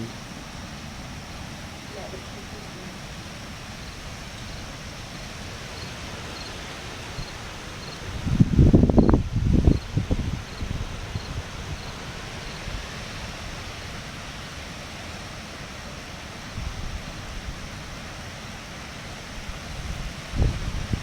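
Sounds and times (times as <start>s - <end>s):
wind buffeting microphone: 0.0s - 14.0s, 16.5s - 17.9s, 19.3s - 21.0s
strong wind through trees: 0.0s - 21.0s.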